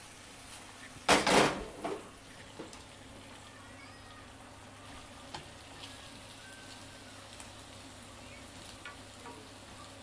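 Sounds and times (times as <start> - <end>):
meat and onions sizzling in a pan: 0.0 - 10.0.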